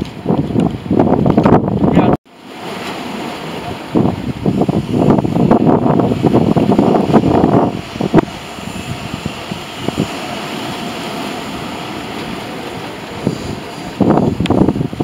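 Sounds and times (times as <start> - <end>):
wind buffeting microphone: 0.0 - 15.0
jet engines droning: 2.4 - 15.0.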